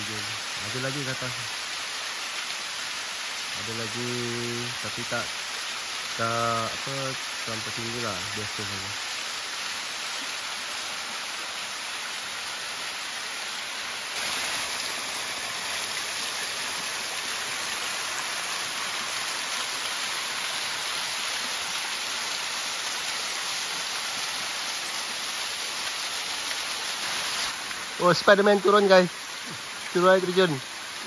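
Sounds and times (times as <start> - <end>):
waterfall rushing and splashing: 0.0 - 31.0.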